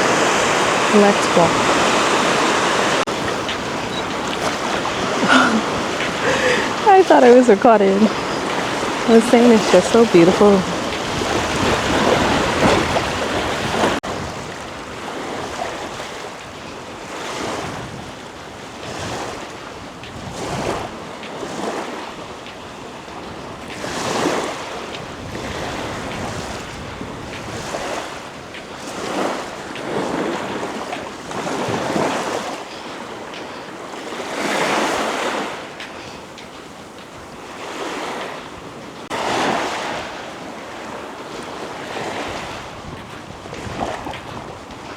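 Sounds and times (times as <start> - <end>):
ocean surf washing onto beach: 0.0 - 44.9
wind buffeting microphone: 0.0 - 44.9.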